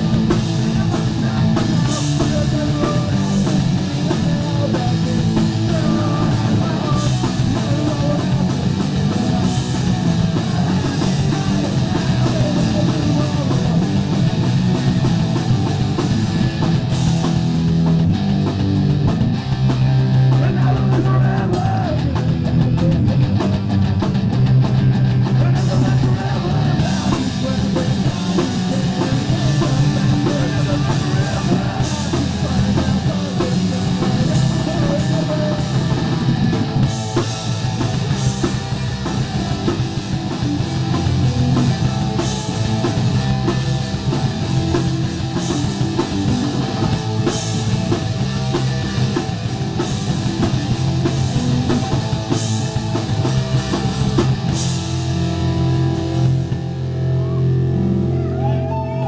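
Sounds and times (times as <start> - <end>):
live rock band: 0.0 - 59.0.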